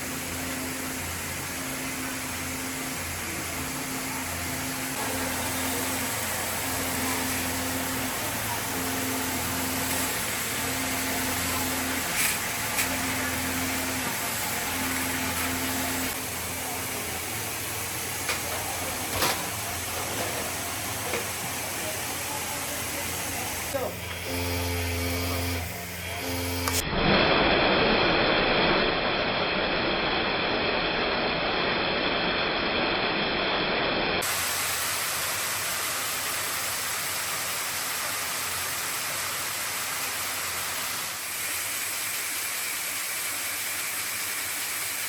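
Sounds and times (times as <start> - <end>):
woodworking machine humming: 0.0 - 45.0.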